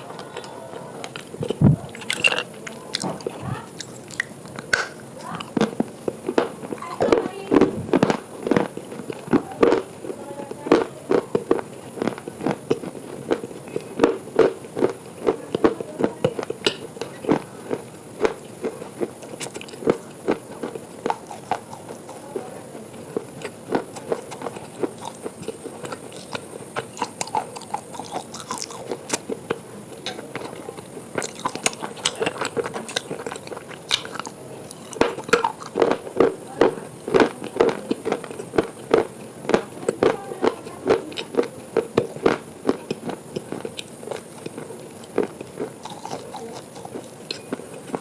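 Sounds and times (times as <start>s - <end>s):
person chewing crunchy food: 0.0s - 48.0s.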